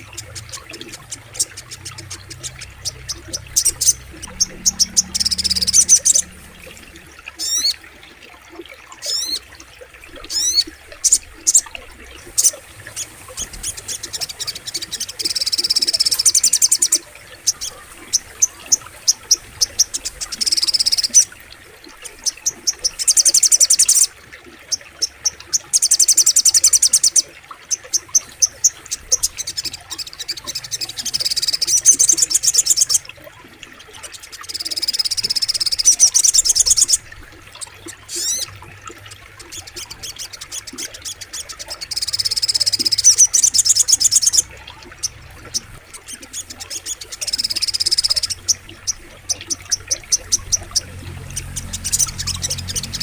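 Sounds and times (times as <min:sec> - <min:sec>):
bird buzzy trills: 0:00.0 - 0:08.1, 0:08.9 - 0:53.0.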